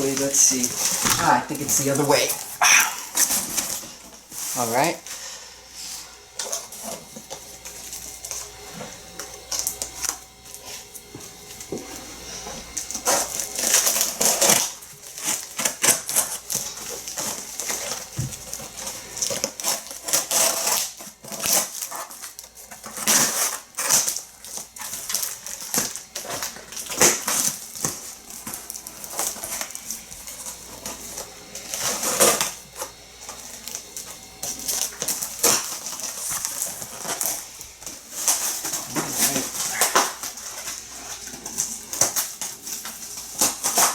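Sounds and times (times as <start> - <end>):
packing materials crackling and tearing: 0.0 - 5.0, 12.6 - 43.9.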